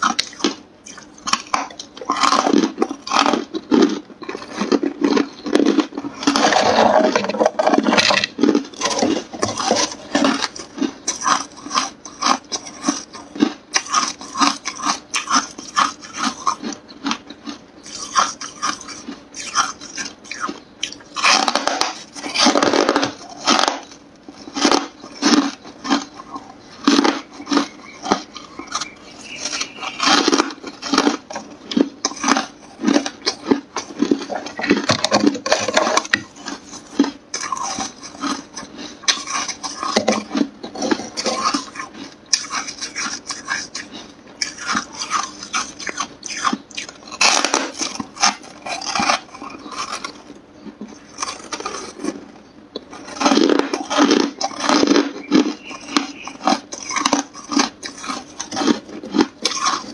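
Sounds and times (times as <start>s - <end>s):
person chewing hard ice: 0.0s - 59.9s.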